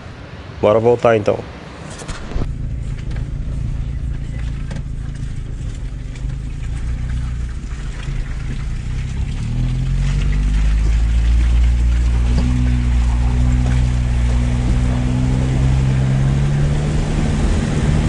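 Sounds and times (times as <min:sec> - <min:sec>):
vehicle engine revving: 0:01.9 - 0:18.0.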